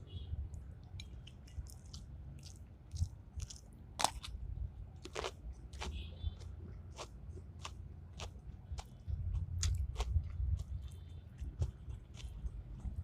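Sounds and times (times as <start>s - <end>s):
person chewing: 0.5s - 4.4s, 5.0s - 13.0s.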